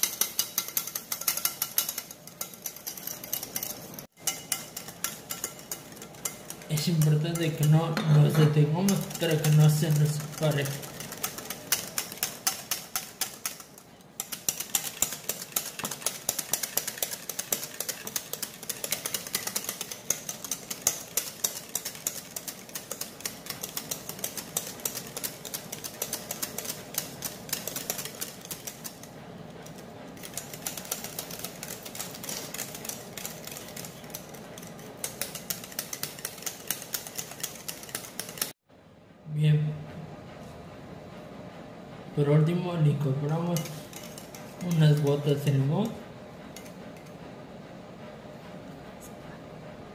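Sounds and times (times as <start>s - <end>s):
whisk beating against bowl: 0.0s - 38.6s, 42.3s - 47.2s.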